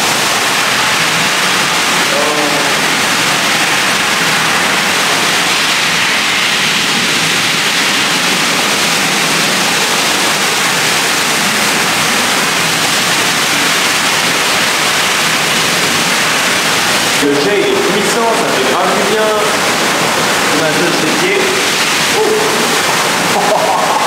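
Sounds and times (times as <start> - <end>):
jacuzzi water jets bubbling: 0.0 - 24.0.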